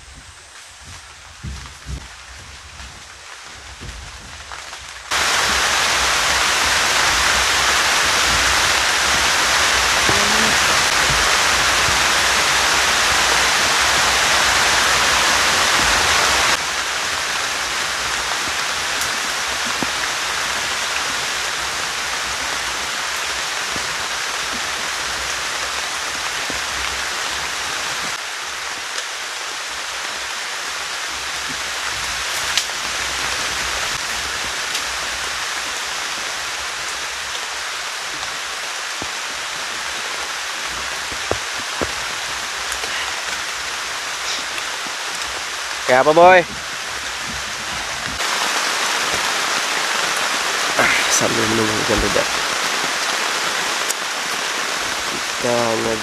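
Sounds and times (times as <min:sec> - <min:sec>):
heavy rain falling: 0:00.0 - 0:56.0
raindrops tapping: 0:00.0 - 0:56.0.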